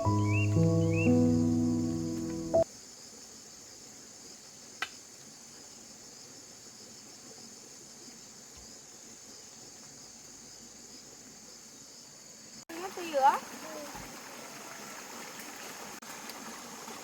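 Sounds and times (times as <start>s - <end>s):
crickets chirping: 0.0s - 13.8s.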